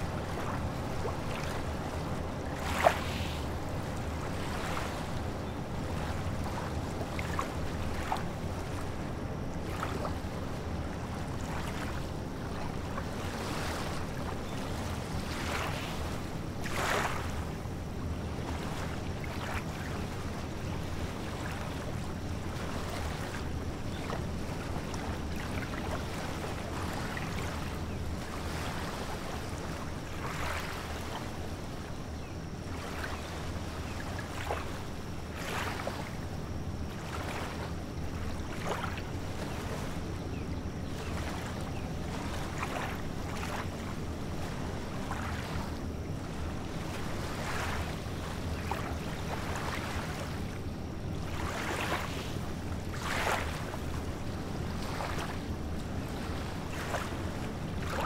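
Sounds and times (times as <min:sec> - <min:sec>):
low rumble of surf: 0:00.0 - 0:58.0
small waves splashing: 0:00.0 - 0:58.0
wind: 0:00.0 - 0:58.0.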